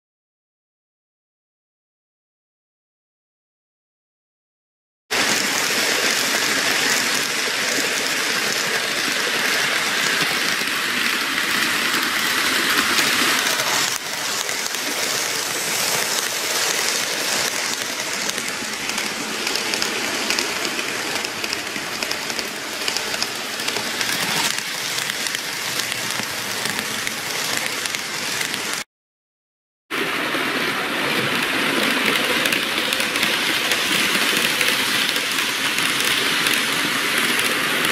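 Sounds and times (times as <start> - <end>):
model train wheels hissing on rails: 5.1 - 28.8, 30.0 - 37.9.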